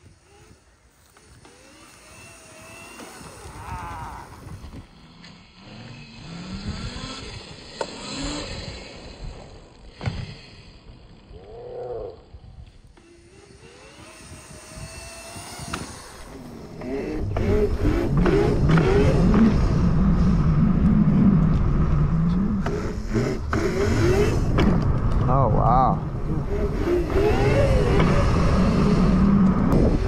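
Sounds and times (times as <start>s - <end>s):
electric motor whining: 0.0s - 25.2s, 26.0s - 30.0s.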